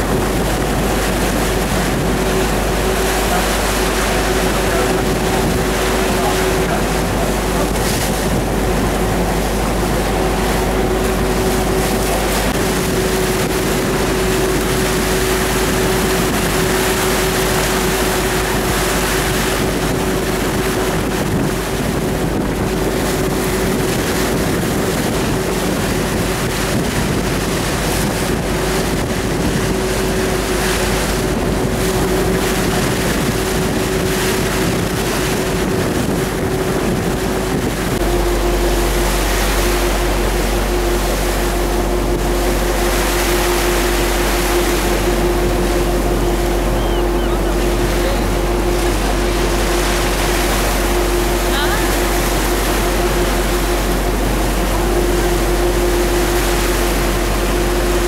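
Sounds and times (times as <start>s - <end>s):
boat engine humming: 0.0s - 58.0s
choppy water against hull: 0.0s - 58.0s
wind on microphone: 0.0s - 58.0s.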